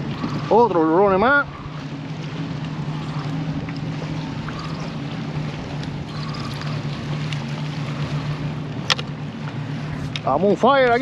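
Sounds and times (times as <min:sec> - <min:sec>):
boat engine idling: 0:00.0 - 0:11.0
sea water washing: 0:00.0 - 0:11.0.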